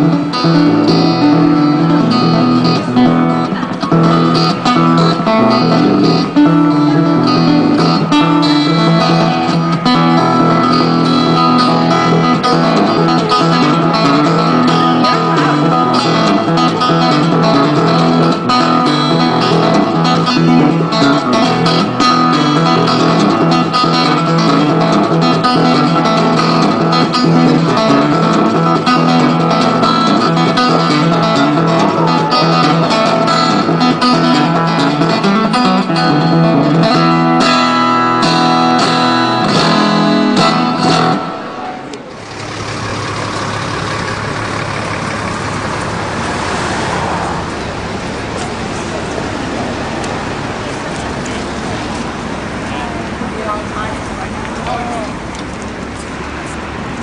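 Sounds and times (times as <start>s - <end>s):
acoustic guitar strumming chords: 0.0s - 55.4s.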